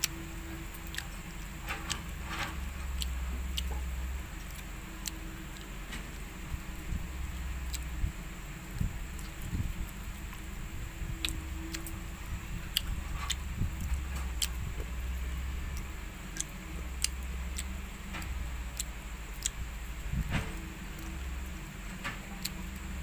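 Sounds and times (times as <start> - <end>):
crunchy chewing on insect shell: 0.0 - 23.0
steady low hum: 0.0 - 23.0.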